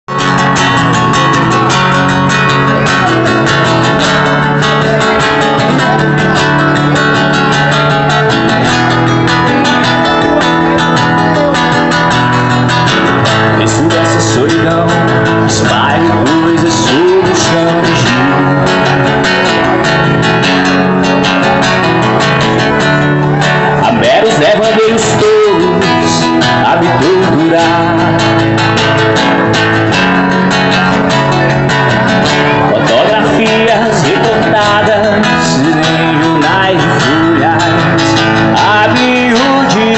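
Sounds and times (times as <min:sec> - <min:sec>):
acoustic guitar strumming: 0:00.1 - 0:39.9.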